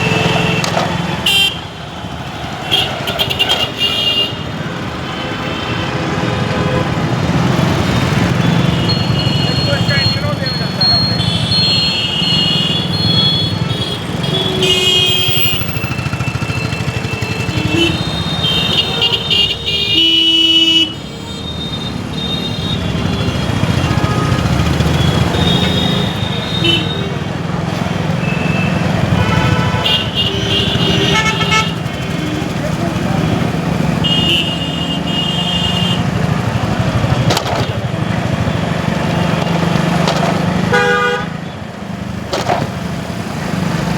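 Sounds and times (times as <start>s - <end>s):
vehicle horns honking: 0.0s - 41.7s
motorcycle engine and road rumble: 0.0s - 43.9s.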